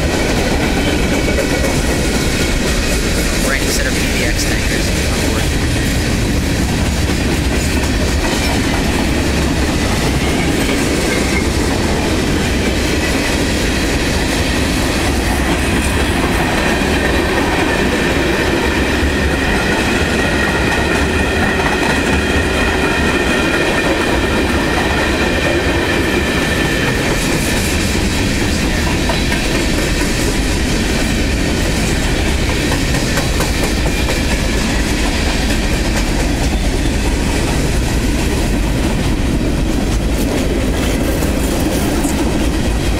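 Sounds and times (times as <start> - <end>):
train wheels clacking on rail joints: 0.0 - 42.9.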